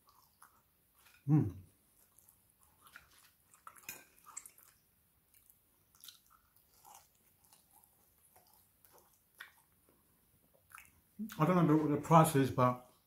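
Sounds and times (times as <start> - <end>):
person chewing food: 0.0 - 11.4.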